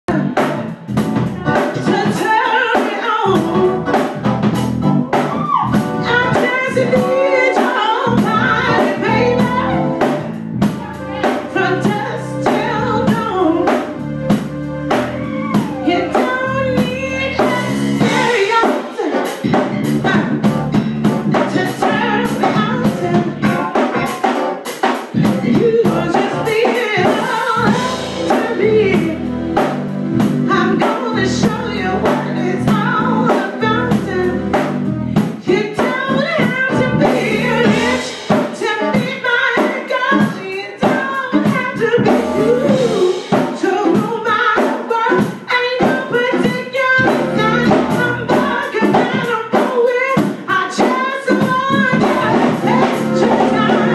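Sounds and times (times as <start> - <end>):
woman singing: 0.1 - 4.2, 5.1 - 24.3, 25.1 - 29.8, 30.4 - 53.9
drum kit beat: 0.1 - 53.9
keyboard: 0.1 - 53.9.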